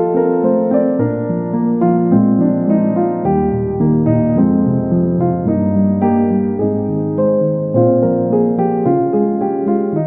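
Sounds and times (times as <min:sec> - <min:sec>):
instrumental piano music: 0:00.0 - 0:10.0.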